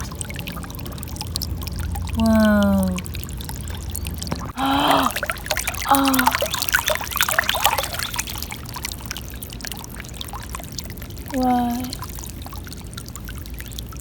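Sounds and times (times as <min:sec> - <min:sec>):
water gurgling and splashing: 0:00.0 - 0:14.0.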